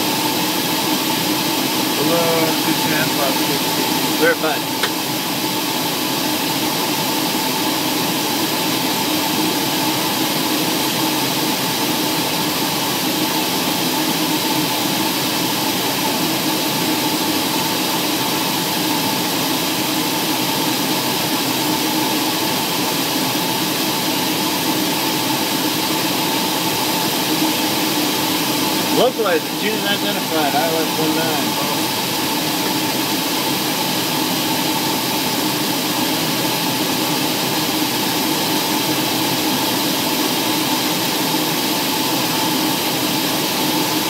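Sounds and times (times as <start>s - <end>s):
aircraft cabin engine drone: 0.0s - 44.0s.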